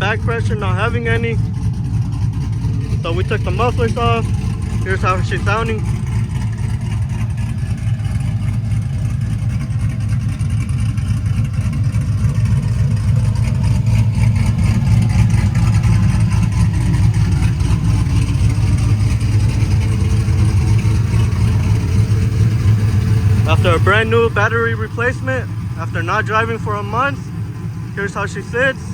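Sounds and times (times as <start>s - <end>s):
loud truck engine running: 0.0s - 28.9s.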